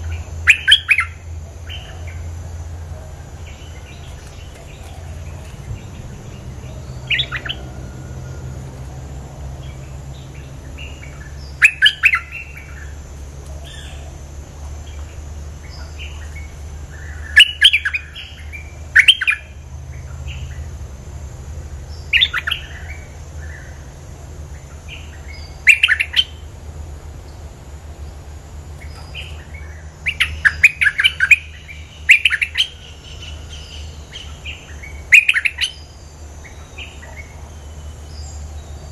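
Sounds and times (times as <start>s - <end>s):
bulbul calling: 0.0s - 20.7s, 21.9s - 23.9s, 24.6s - 26.4s, 28.8s - 38.9s.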